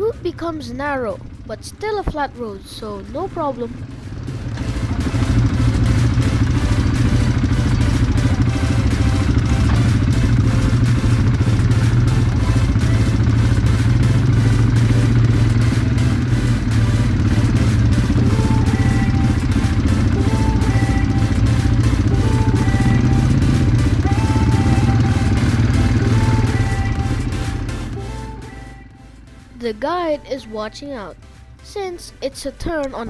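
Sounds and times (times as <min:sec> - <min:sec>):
quad bike engine droning: 0:00.0 - 0:33.0.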